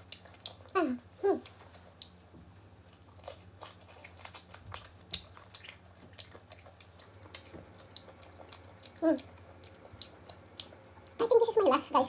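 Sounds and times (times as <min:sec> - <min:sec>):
crunching and chewing: 0:00.0 - 0:11.2.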